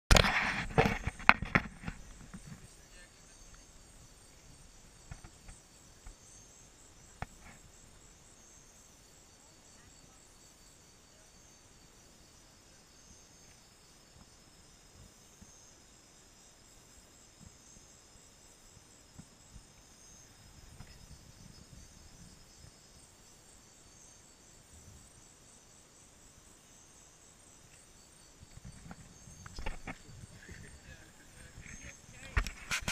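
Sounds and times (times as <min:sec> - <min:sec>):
night insects chorus: 0:00.1 - 0:32.9.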